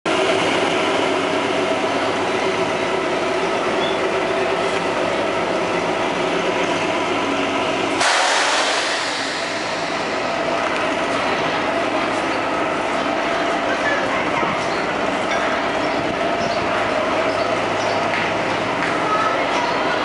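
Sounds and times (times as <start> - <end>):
diesel train engine humming: 0.1 - 20.0.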